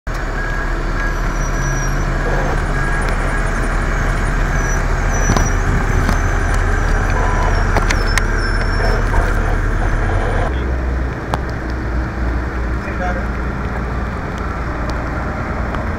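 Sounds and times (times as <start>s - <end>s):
diesel engine idling: 0.1s - 15.9s
dense wash of noise: 2.1s - 15.9s.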